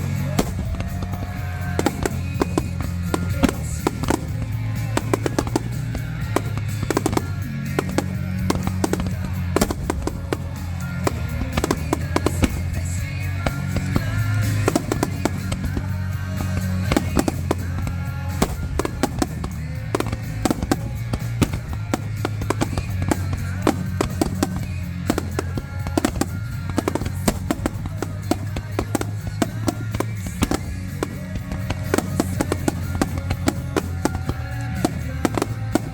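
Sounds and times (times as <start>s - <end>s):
fireworks bursting and crackling: 0.0s - 35.9s.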